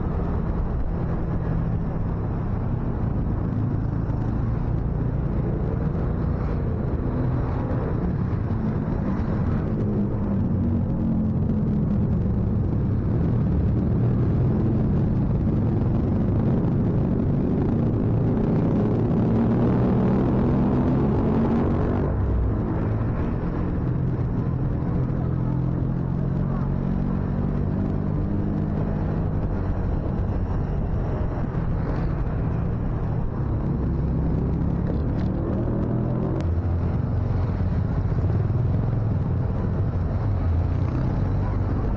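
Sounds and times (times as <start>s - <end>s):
low wind rumble: 0.0s - 41.9s.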